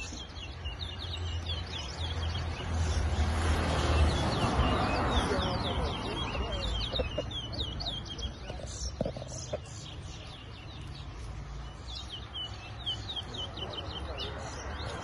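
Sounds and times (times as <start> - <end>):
finches chirping: 0.0 - 15.0.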